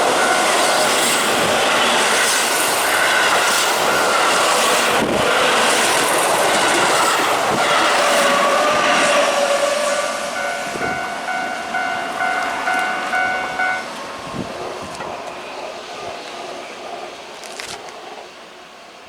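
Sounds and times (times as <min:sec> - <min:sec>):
level crossing warning bell: 0:00.0 - 0:16.1
train wheels clattering on rails: 0:00.0 - 0:18.2.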